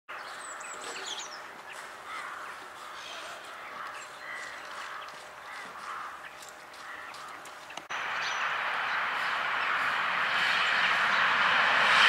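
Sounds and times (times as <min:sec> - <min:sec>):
background bird calls: 0:00.1 - 0:11.4.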